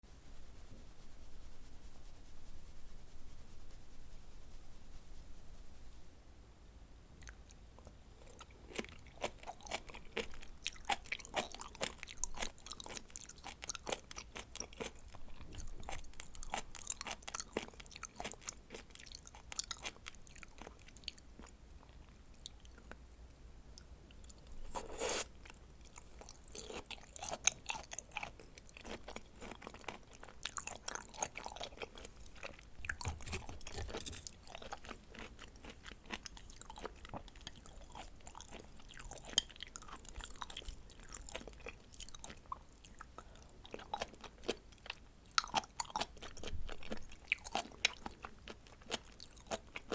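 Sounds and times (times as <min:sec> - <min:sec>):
wet chewing clicks and smacks: 0:07.2 - 0:23.0, 0:25.4 - 0:49.9.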